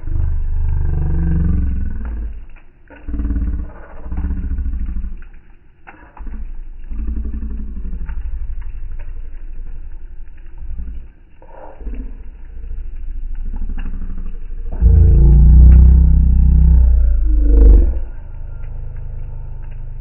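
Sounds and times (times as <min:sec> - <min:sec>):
deep rough growling: 0:00.0 - 0:05.4, 0:06.2 - 0:20.0
campfire crackling and popping: 0:00.0 - 0:20.0.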